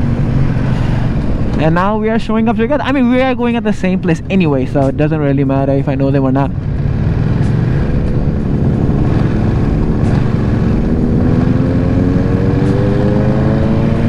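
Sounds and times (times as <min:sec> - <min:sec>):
motorcycle engine running: 0:00.0 - 0:14.0
wind rush: 0:00.0 - 0:14.0.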